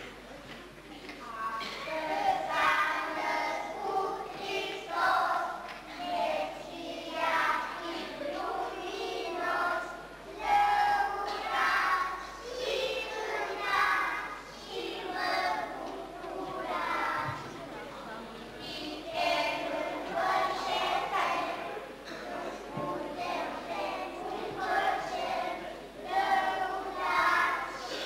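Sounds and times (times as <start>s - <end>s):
children singing in unison: 1.6s - 17.8s, 18.5s - 28.0s.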